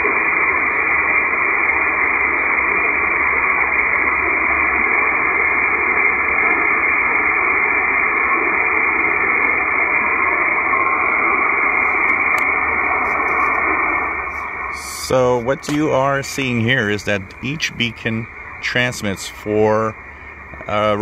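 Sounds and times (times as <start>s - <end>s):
shortwave radio static: 0.0s - 21.0s.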